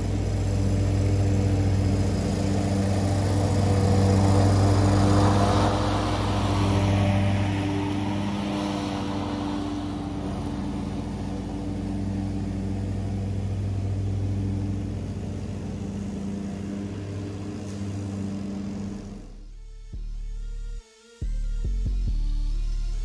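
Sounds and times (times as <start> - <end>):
lawn mower engine running: 0.0 - 19.4.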